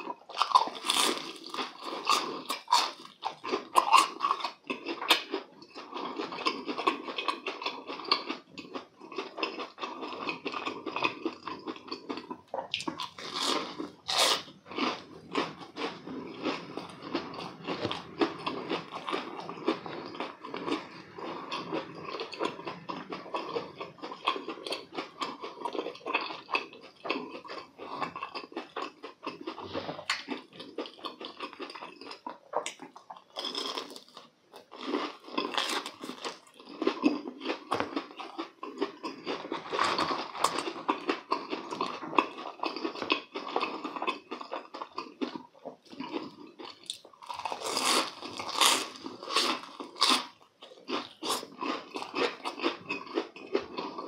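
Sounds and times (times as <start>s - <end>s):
crunchy fried food chewing: 0.0s - 54.0s.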